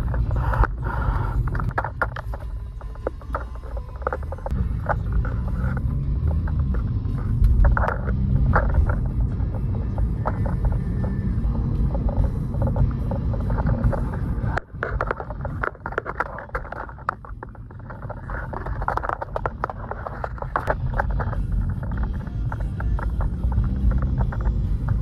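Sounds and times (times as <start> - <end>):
background music: 0.0 - 15.8, 16.4 - 25.0
car road and engine rumble: 0.0 - 25.0.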